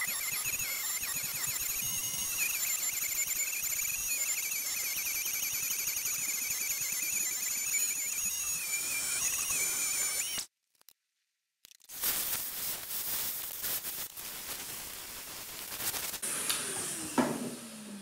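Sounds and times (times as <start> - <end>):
rotary tool high-pitched whine: 0.0 - 10.5, 11.9 - 18.0.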